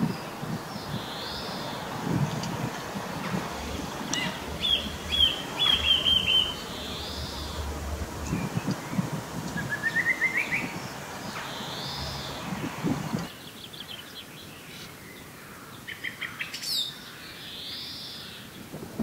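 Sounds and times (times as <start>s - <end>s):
songbirds chirping: 0.0s - 18.8s.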